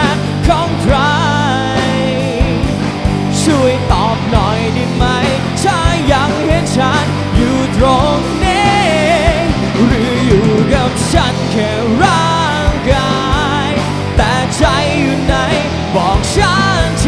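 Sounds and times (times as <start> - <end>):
bass guitar: 0.0 - 17.0
drums keeping a steady beat: 0.0 - 17.0
electric guitars: 0.0 - 17.0
person singing: 0.0 - 17.0.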